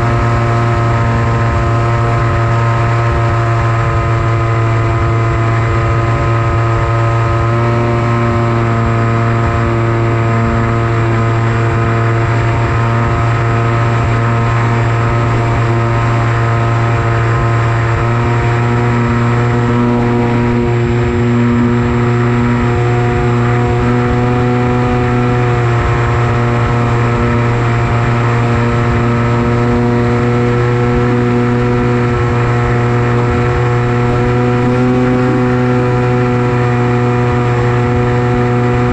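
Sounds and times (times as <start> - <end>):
electric motor and propeller drone: 0.0 - 38.9.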